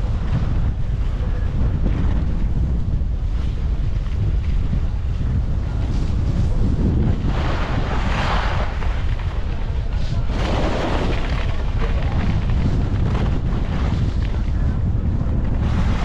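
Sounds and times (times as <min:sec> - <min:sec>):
skis scraping over snow: 0:00.0 - 0:16.0
wind buffeting microphone: 0:00.0 - 0:16.0.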